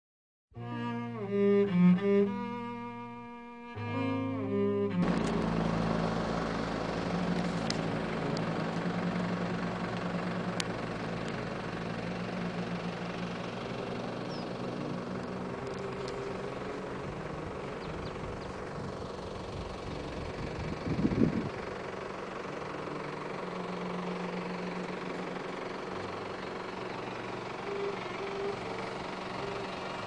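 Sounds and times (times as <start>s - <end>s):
vehicle engine humming: 0.6s - 30.0s.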